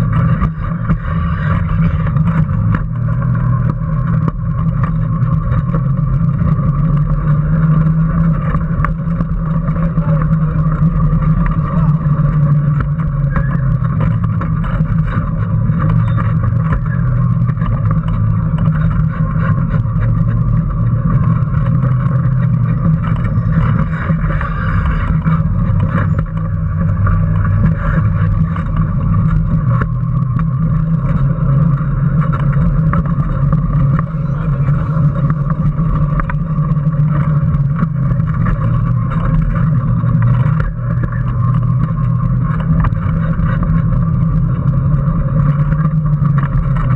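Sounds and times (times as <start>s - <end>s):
electric motor hum and whine: 0.0s - 46.9s
kart knocks and rattles: 0.0s - 46.9s.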